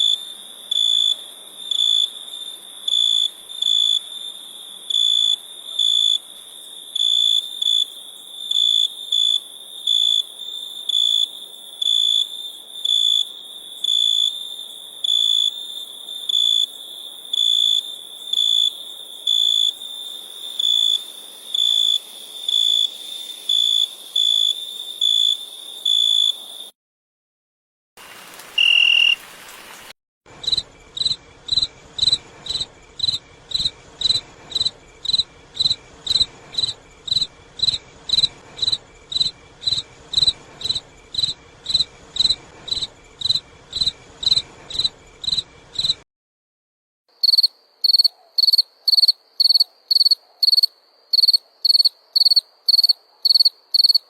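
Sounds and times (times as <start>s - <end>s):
crickets chirping: 0.0s - 26.7s, 28.1s - 29.8s, 30.4s - 46.0s, 47.1s - 54.0s.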